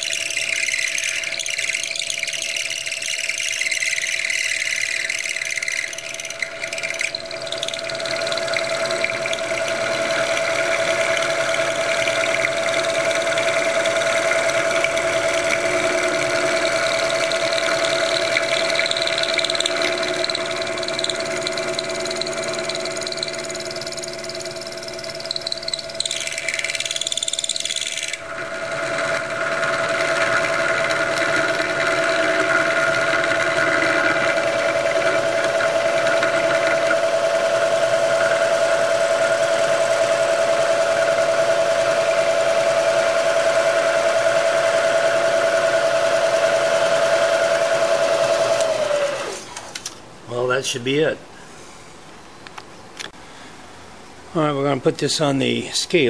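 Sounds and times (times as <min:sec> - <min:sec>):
end mill cutting metal: 0:00.0 - 0:49.4
milling machine spindle whine: 0:00.0 - 0:49.7.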